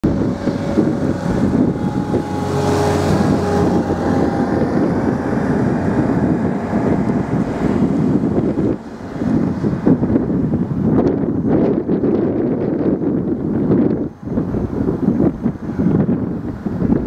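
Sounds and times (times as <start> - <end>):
engine hum: 0.0 - 17.0
wind buffeting microphone: 0.0 - 17.0.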